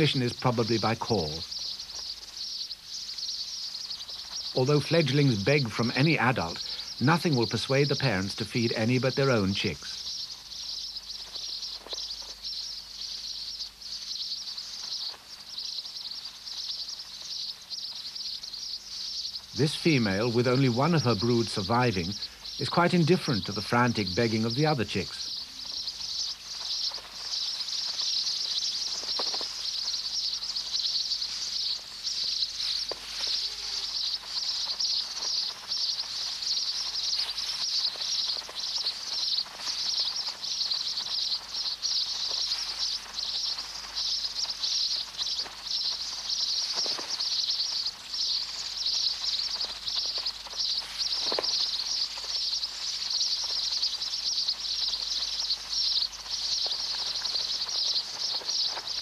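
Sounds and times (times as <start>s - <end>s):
chicks chattering and begging: 0.0s - 59.0s.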